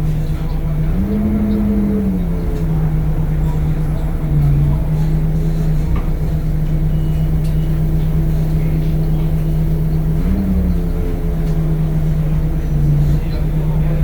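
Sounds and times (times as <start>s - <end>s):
city bus diesel engine drone: 0.0s - 14.0s.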